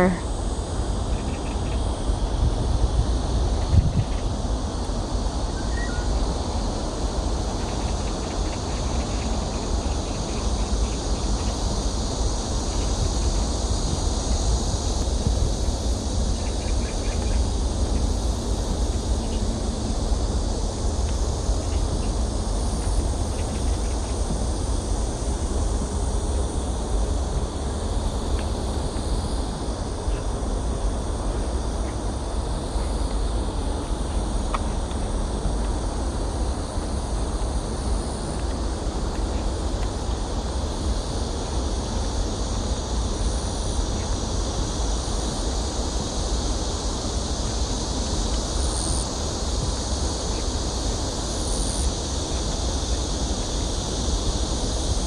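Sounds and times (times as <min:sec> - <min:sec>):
insects chirring: 0:00.0 - 0:55.0
wind rumble on microphone: 0:00.0 - 0:55.0.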